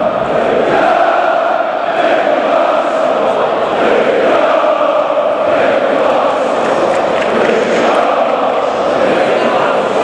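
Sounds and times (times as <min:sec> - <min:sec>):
crowd chanting: 0:00.0 - 0:10.0.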